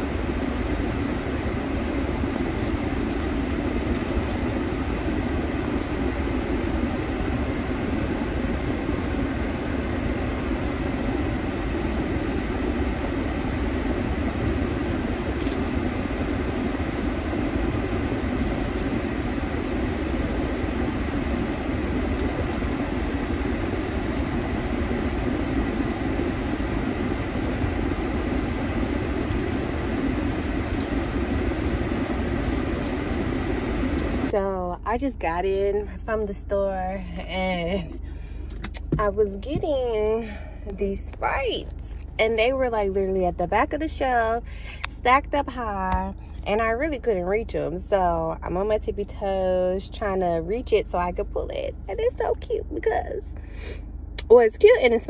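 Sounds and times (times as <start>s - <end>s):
car cabin engine and road rumble: 0.0s - 55.0s.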